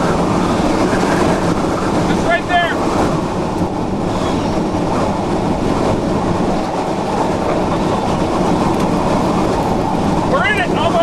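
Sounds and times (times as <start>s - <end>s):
roar of tornado wind: 0.0s - 11.0s
wind buffeting microphone: 0.0s - 11.0s.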